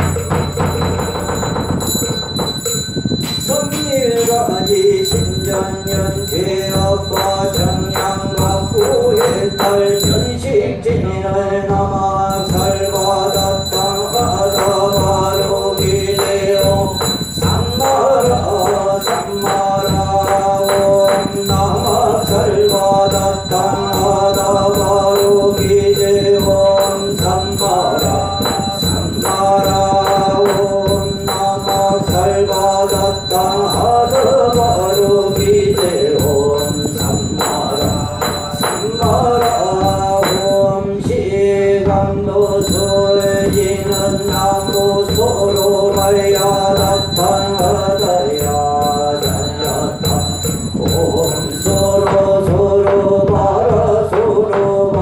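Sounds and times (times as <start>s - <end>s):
percussion strikes: 0.0s - 55.0s
people chanting in unison: 3.6s - 55.0s.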